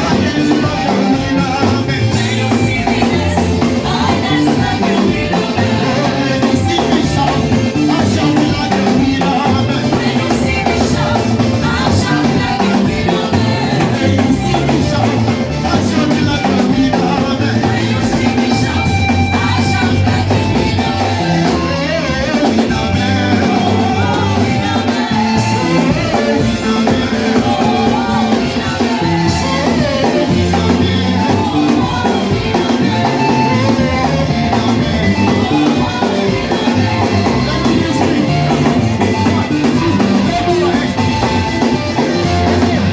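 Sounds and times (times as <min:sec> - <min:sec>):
drum kit: 0:00.0 - 0:42.9
live band playing worship music: 0:00.0 - 0:42.9
voices singing: 0:00.0 - 0:42.9.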